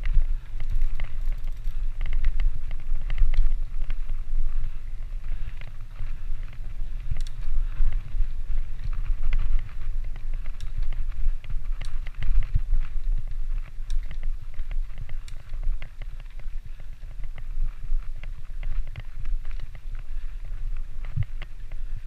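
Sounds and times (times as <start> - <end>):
bike clicking and rattling: 0.0 - 22.0
wind rumbling on microphone: 0.0 - 22.0.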